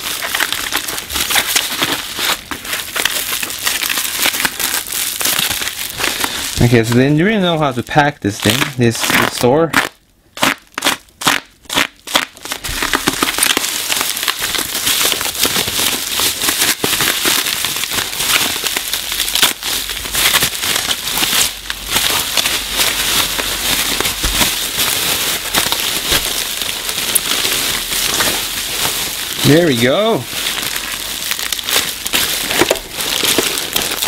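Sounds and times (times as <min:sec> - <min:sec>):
bubble wrap crackling: 0:00.0 - 0:34.0.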